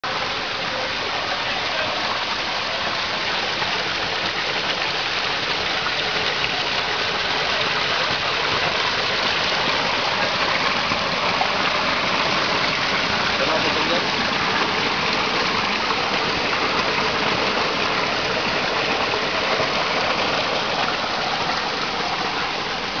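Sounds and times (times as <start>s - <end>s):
water flowing over stones: 0.0s - 23.0s.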